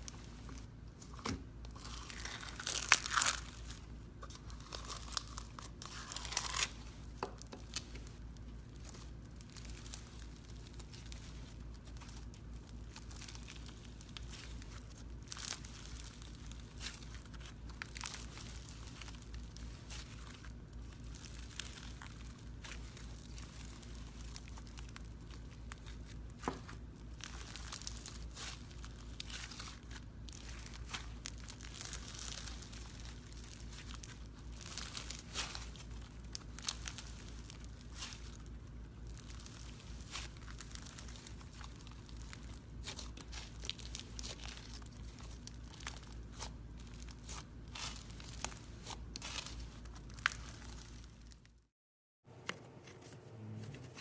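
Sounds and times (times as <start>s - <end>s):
steady low hum: 0.0s - 51.6s
slime crackling and popping: 0.0s - 51.7s.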